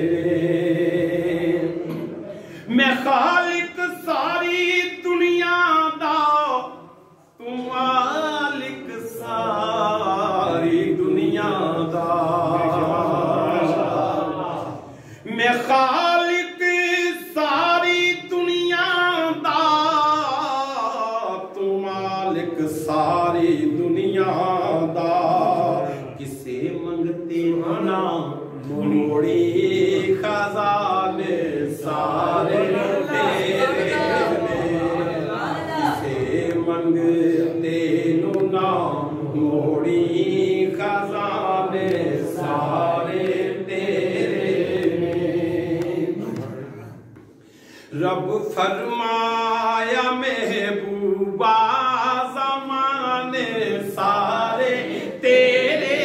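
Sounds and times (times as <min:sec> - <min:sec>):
men chanting: 0:00.0 - 0:47.2, 0:47.9 - 0:56.0
man singing unaccompanied: 0:02.7 - 0:14.3, 0:15.2 - 0:35.2, 0:36.0 - 0:46.3, 0:47.9 - 0:56.0.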